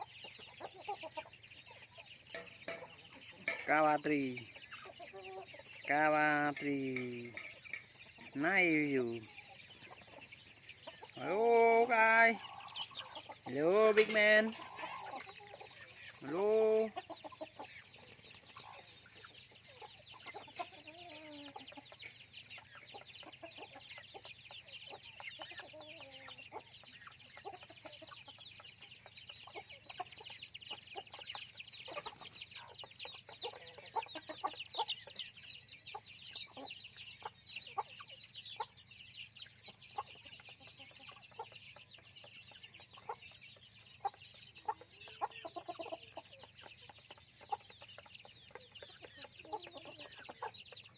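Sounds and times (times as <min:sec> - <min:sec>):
chickens clucking: 0:00.0 - 0:50.9
chicks peeping: 0:00.0 - 0:50.9.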